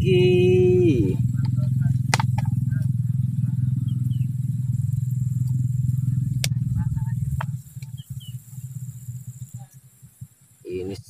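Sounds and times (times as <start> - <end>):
low pulsing drone: 0.0 - 11.0.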